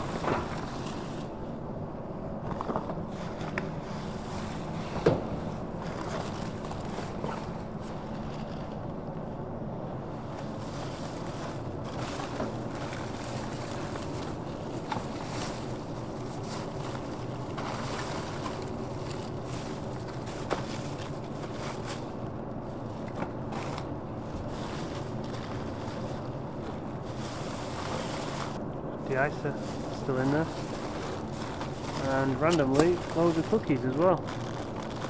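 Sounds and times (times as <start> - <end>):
plastic bags rustling: 2.7 - 8.8, 10.4 - 35.0.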